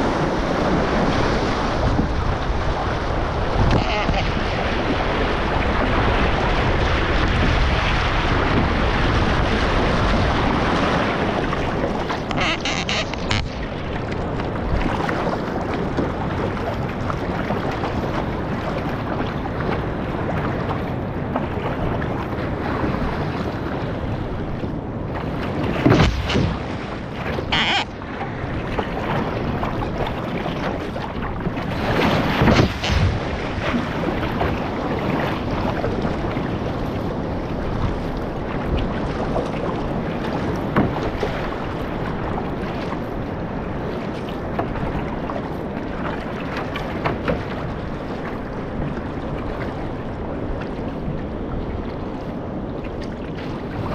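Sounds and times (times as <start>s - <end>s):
water rushing past canoe: 0.0s - 53.9s
wind on microphone: 0.0s - 53.9s.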